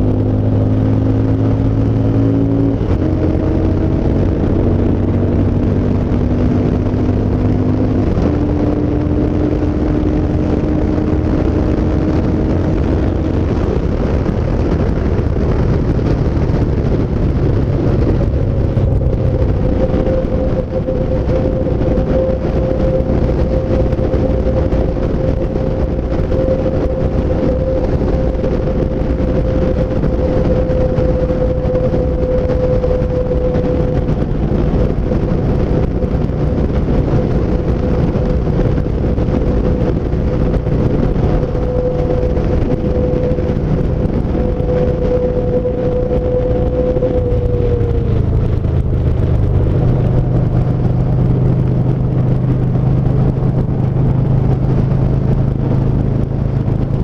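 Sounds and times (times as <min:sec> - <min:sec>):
motorcycle engine cruising: 0:00.0 - 0:57.0
road and rushing noise: 0:00.0 - 0:57.0
steady whine: 0:00.0 - 0:57.0.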